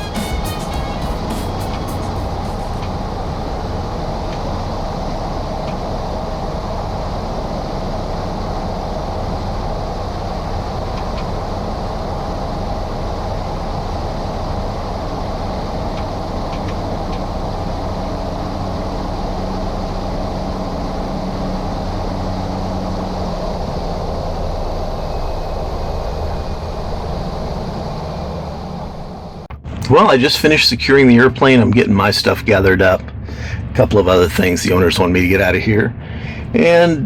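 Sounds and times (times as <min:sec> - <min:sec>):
low hum: 0:00.0 - 0:37.0
turboprop engine drone: 0:00.0 - 0:37.0.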